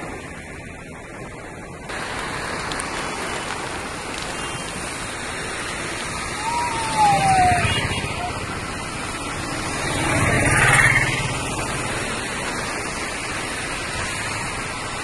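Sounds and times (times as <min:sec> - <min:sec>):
auto-rickshaw engine rumble: 0:00.0 - 0:15.0
heavy rain pouring: 0:00.0 - 0:15.0.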